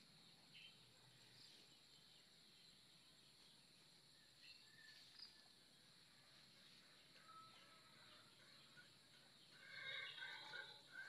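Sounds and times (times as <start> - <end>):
faint chirps: 0.0 - 11.0.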